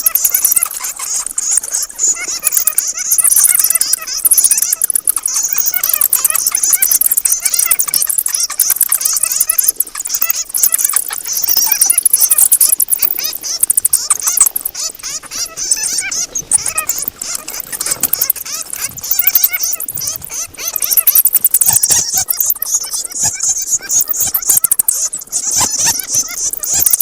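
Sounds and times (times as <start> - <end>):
bats squeaking and chattering: 0.0 - 27.0.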